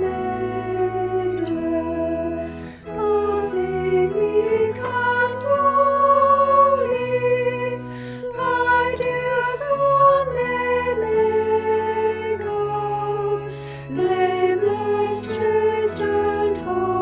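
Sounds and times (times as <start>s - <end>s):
choir singing a hymn: 0.0s - 17.0s.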